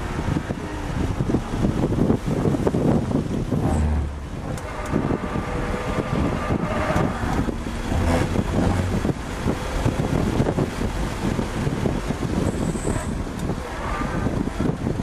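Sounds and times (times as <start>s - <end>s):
car engine running hard: 0.0s - 15.0s
wind and road noise: 0.0s - 15.0s.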